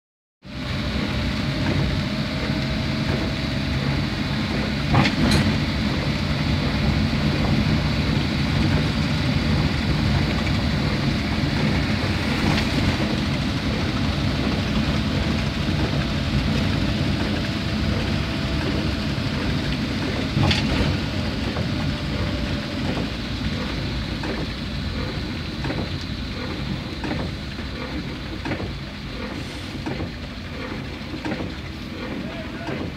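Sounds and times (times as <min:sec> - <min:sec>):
vehicle engine hum: 0:00.4 - 0:32.9
tyre noise on wet road: 0:00.5 - 0:32.9.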